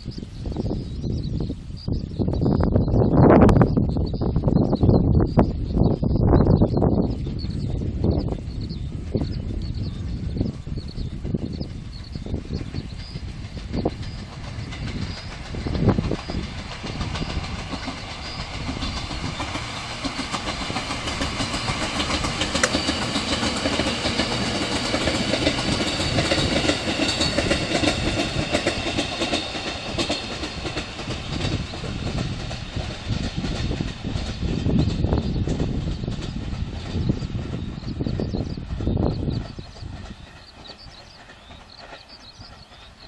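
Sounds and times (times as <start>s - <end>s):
train wheels clacking on rails: 6.4s - 43.0s.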